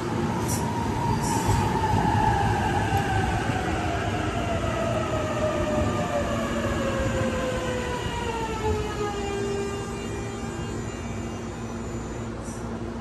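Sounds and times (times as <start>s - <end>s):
train wheels rumbling on rails: 0.0s - 11.8s
electric train traction whine: 0.2s - 13.0s.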